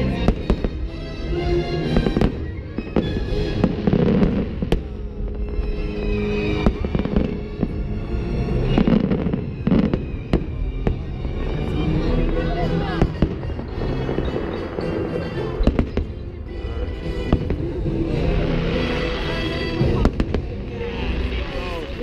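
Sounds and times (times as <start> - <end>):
orchestral music: 0.0 - 22.0.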